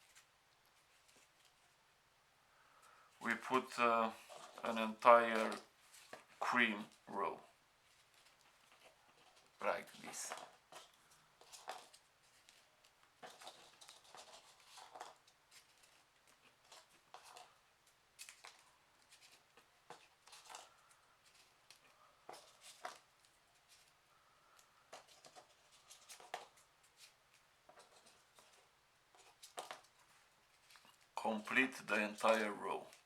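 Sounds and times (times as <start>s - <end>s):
paper rustling and clicking: 3.2s - 7.3s, 7.9s - 33.0s.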